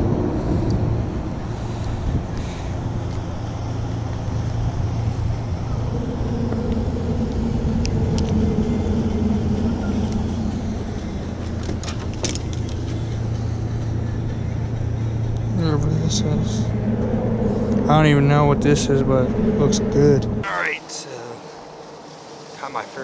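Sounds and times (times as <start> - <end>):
second engine note: 0.0 - 21.6
low engine hum: 0.0 - 23.0.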